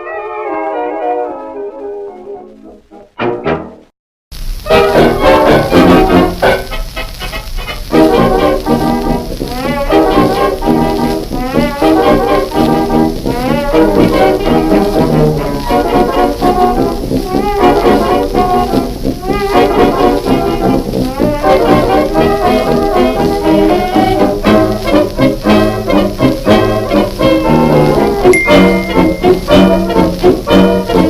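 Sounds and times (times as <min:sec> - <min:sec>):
lively brass music: 0:04.6 - 0:31.0.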